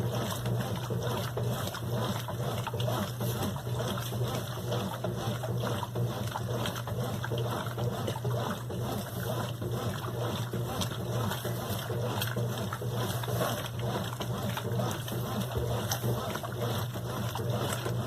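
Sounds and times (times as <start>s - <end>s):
washing machine humming: 0.0s - 18.0s
water splashing and sloshing: 0.0s - 18.0s.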